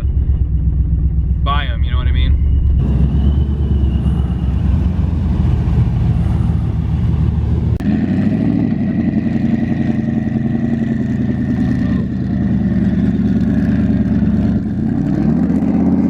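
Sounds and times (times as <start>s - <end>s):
engine heavy low rumble: 0.0s - 16.0s
steady engine with high whine: 0.0s - 16.0s.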